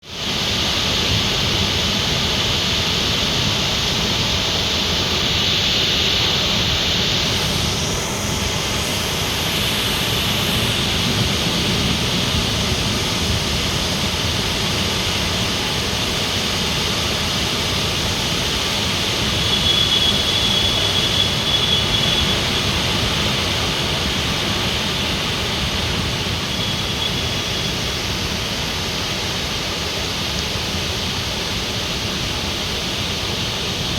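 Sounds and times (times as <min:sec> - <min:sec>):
heavy rain: 0:00.0 - 0:33.9
waterfall roaring: 0:00.1 - 0:33.9.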